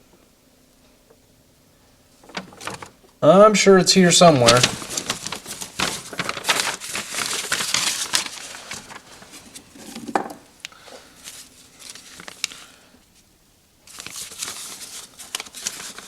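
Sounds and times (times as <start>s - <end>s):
paper map rustling and crinkling: 2.1s - 10.0s, 10.8s - 16.0s.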